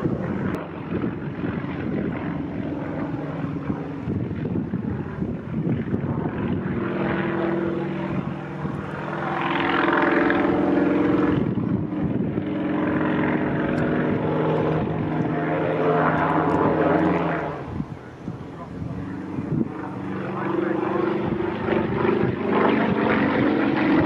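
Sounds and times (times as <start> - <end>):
light aircraft propeller engine: 0.0 - 24.0.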